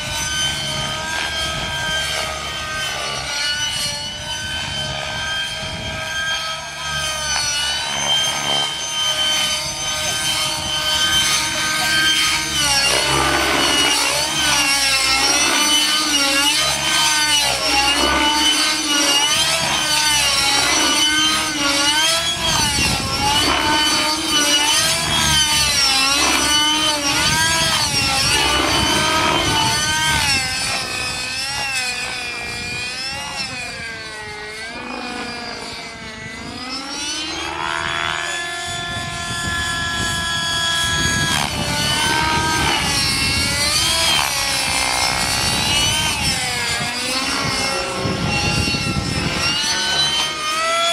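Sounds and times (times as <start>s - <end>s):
model helicopter engine whine: 0.0s - 50.9s.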